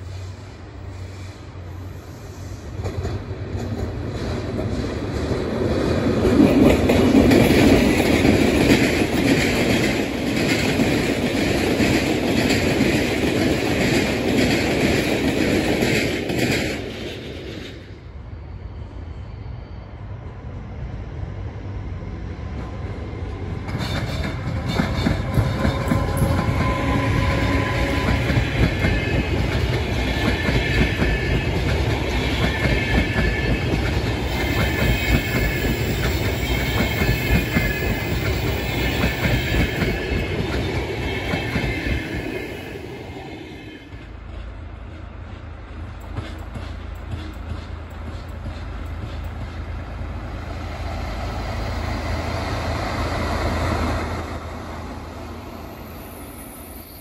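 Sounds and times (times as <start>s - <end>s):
locomotive hauled train rolling: 0.0s - 57.0s
passenger train running past: 0.0s - 57.0s.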